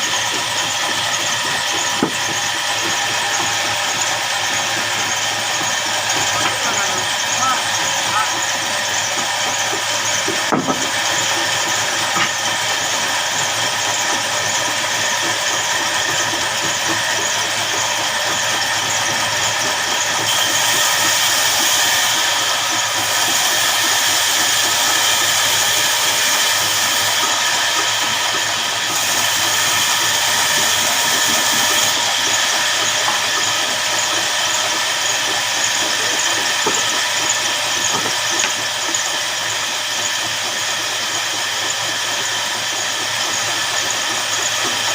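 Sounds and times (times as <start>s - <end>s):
band sawmill whining: 0.0s - 44.9s.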